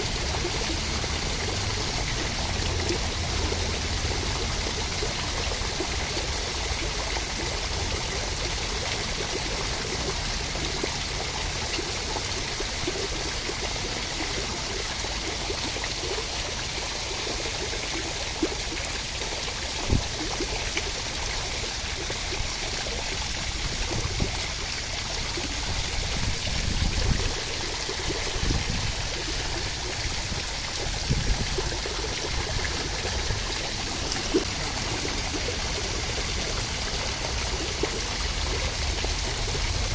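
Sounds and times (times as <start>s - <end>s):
rushing water hiss: 0.0s - 39.9s.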